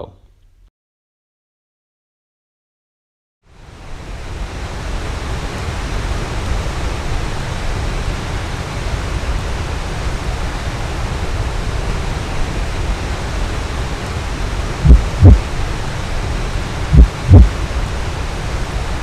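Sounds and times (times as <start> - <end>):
waterfall roaring: 3.5 - 19.0.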